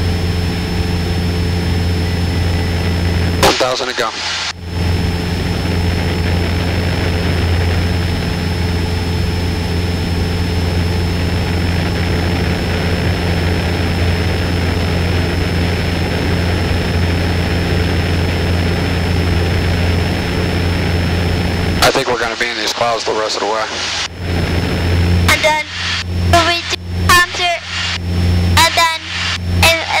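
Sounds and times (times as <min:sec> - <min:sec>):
propeller plane engine drone: 0:00.0 - 0:30.0.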